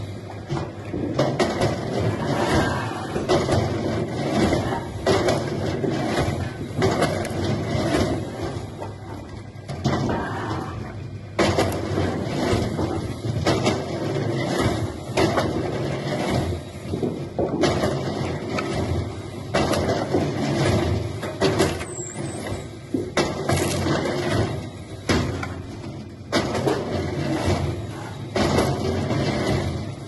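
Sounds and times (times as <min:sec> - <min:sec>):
heavy machinery running: 0:00.0 - 0:30.0
loud clanks and knocks: 0:00.0 - 0:30.0.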